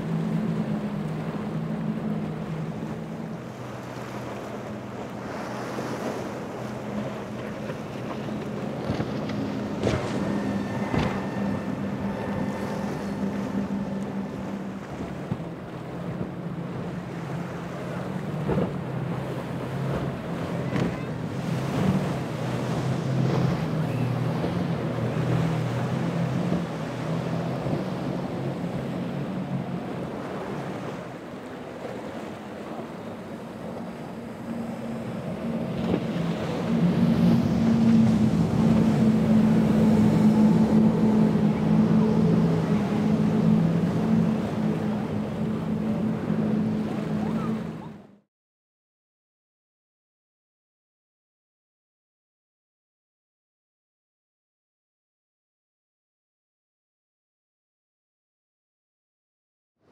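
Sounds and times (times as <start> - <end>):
powerboat engines running: 0.0 - 48.2
waves splashing: 0.0 - 48.2.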